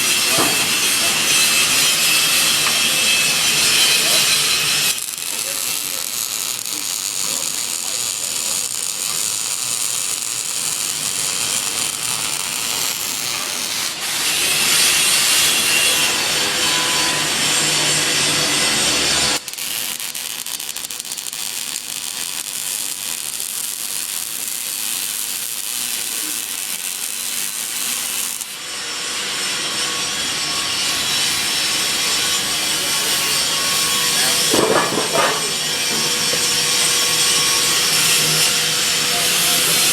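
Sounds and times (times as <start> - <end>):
welding arc crackling and hissing: 0.0 - 39.9.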